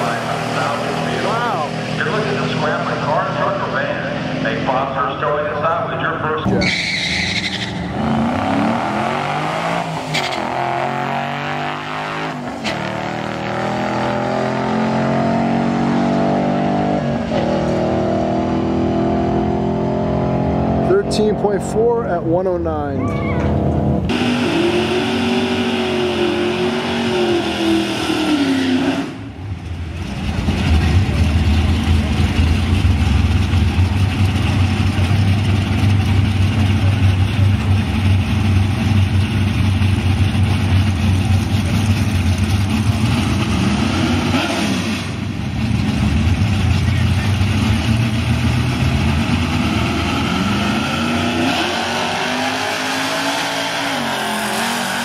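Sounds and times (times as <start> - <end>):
drag car engines revving: 0.0 - 55.0.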